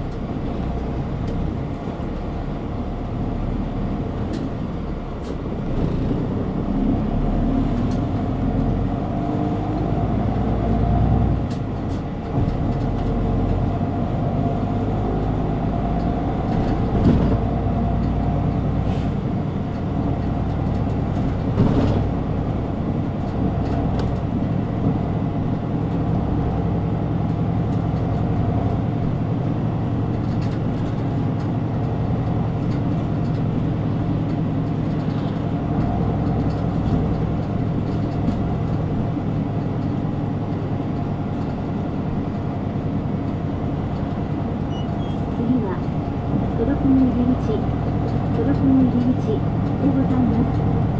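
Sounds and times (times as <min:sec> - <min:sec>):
bus engine and road rumble: 0:00.0 - 0:50.9.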